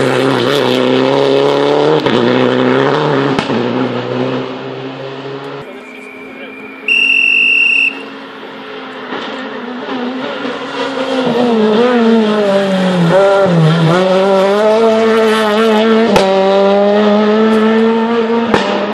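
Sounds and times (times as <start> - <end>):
rally car engine at full throttle: 0.0 - 18.9.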